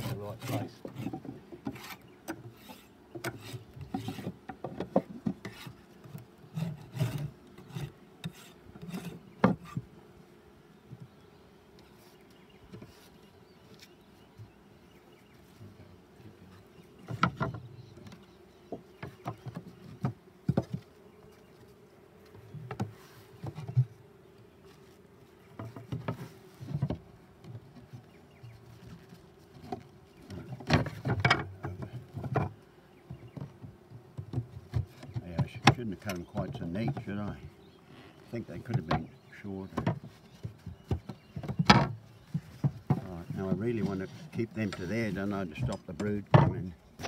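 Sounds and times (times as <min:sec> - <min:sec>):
wooden knocks and scrapes: 0:00.0 - 0:09.9, 0:12.7 - 0:14.6, 0:17.0 - 0:24.0, 0:24.7 - 0:37.5, 0:38.4 - 0:47.0
bees buzzing: 0:00.0 - 0:47.0.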